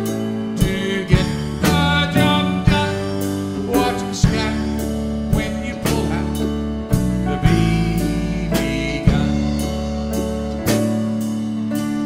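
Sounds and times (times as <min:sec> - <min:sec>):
drum hits: 0:00.0 - 0:12.0
live country-gospel band: 0:00.0 - 0:12.0.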